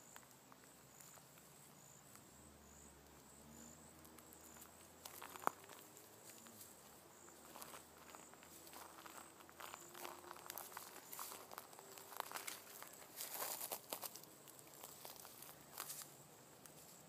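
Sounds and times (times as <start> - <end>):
faint high insect chirps: 0.0 - 17.0.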